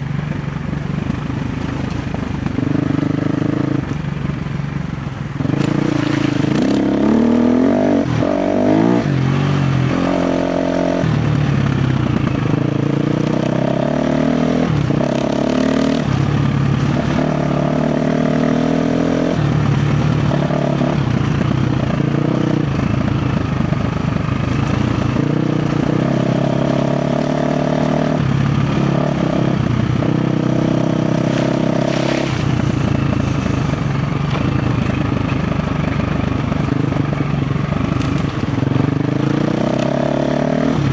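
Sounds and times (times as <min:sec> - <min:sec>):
dirt bike engine revving: 0:01.1 - 0:04.0, 0:05.4 - 0:40.9.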